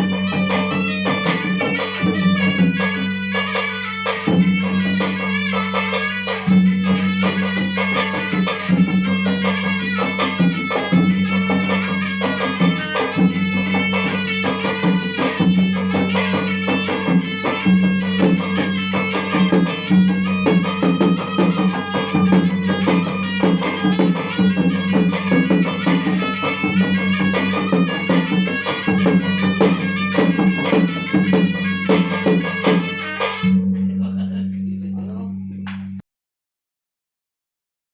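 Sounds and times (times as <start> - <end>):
fast drum strokes: 0.0 - 33.6
wind instrument melody: 0.0 - 33.9.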